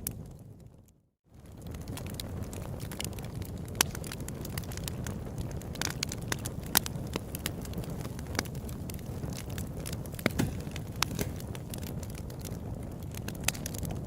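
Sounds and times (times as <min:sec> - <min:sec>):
campfire burning: 0:00.0 - 0:14.0
fire crackles and pops: 0:00.0 - 0:14.0.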